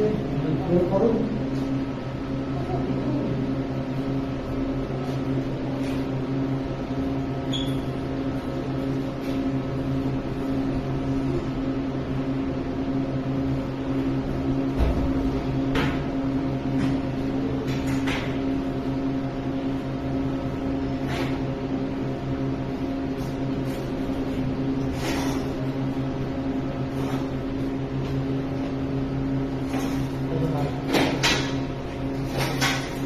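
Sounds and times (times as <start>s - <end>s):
engine humming steadily: 1.4s - 33.0s.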